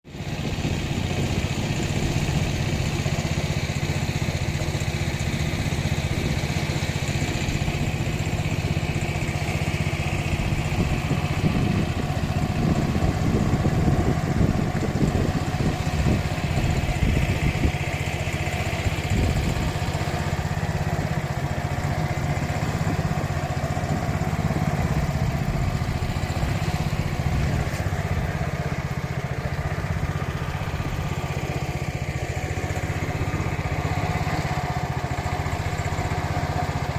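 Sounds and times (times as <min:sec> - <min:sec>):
boat engine running: 0:00.1 - 0:36.9.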